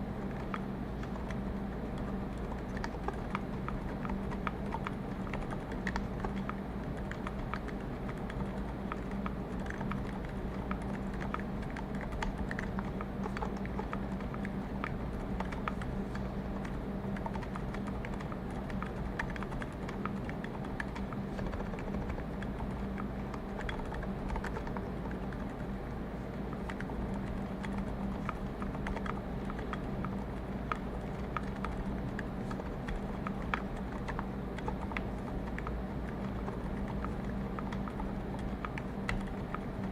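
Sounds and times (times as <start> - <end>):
low ambient hum: 0.0 - 39.9
quiet keyboard typing: 0.0 - 39.9.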